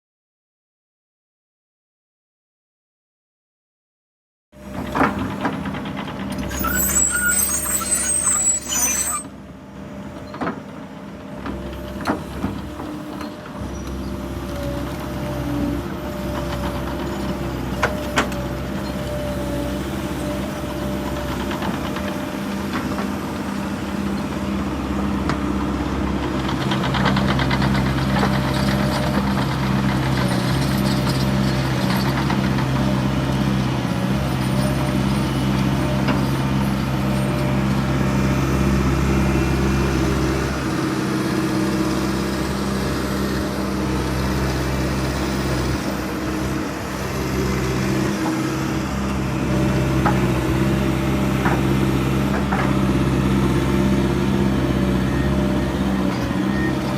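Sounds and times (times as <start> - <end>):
excavator diesel engine running: 4.6 - 56.9.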